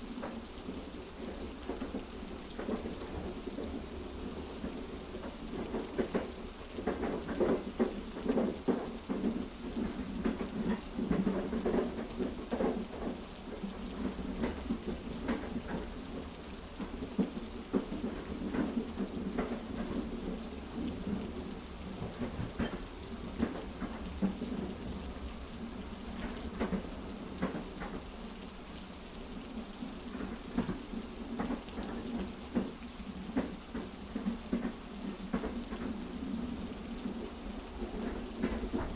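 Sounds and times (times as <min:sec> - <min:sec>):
heavy rain patter: 0:00.0 - 0:38.9.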